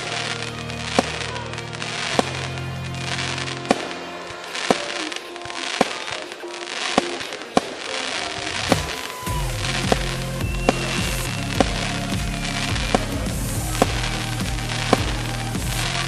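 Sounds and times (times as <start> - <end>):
electronic music: 0.0 - 16.0
firework bangs: 0.0 - 16.0.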